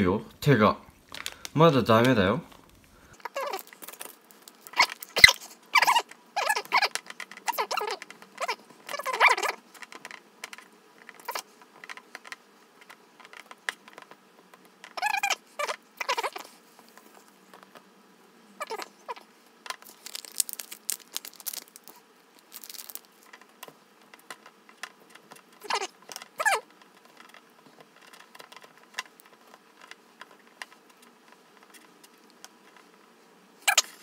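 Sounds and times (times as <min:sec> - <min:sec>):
soft crinkling: 0:00.9 - 0:17.9, 0:18.6 - 0:34.0.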